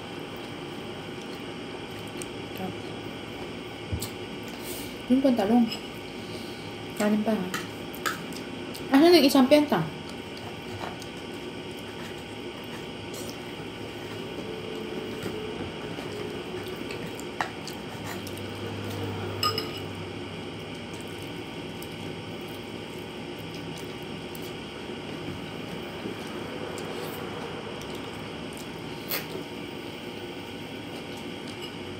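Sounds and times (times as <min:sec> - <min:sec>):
steady background hum: 0:00.0 - 0:31.9.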